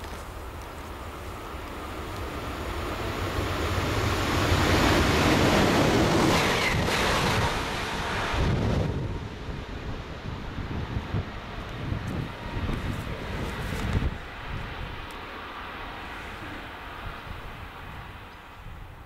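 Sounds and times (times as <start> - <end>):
passenger train passing: 0.0 - 19.0.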